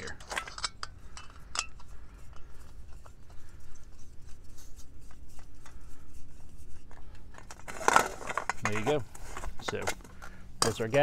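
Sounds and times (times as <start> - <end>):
hose fitting scraping and clicking: 0.0 - 11.0.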